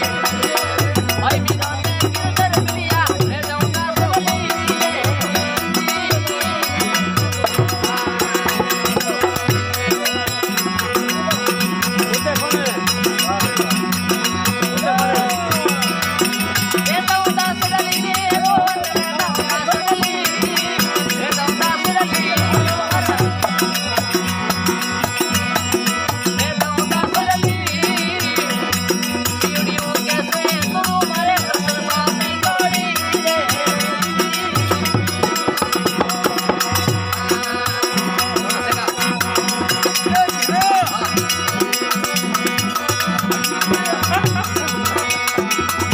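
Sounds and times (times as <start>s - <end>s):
rattling hand percussion: 0.0s - 45.9s
wavering melody: 0.0s - 45.9s.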